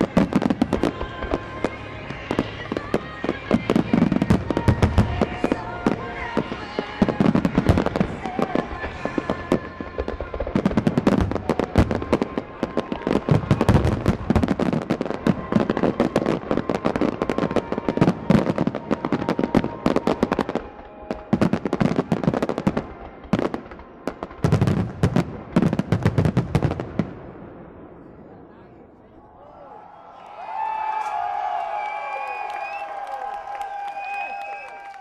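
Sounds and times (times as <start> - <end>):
fireworks bursts and crackling: 0.0 - 28.8, 30.8 - 35.0.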